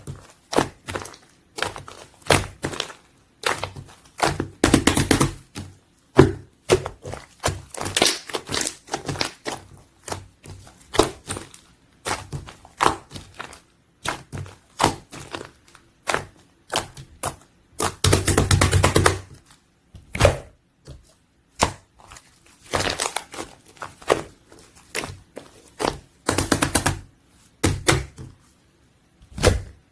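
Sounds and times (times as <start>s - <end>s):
slime squelching and popping: 0.0s - 28.4s.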